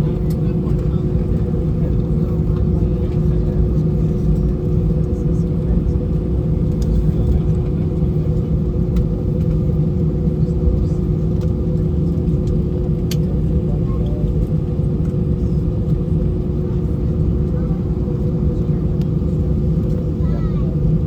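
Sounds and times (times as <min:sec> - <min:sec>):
aircraft cabin engine hum: 0:00.0 - 0:21.0.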